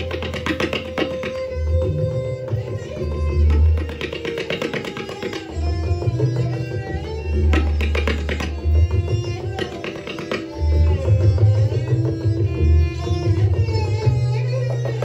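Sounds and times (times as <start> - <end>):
tabla duet: 0.0 - 15.0.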